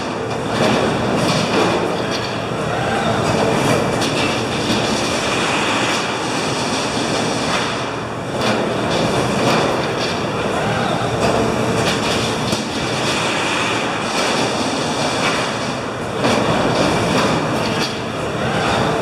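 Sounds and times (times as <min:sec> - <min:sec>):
machine clatter and hum: 0:00.0 - 0:19.0.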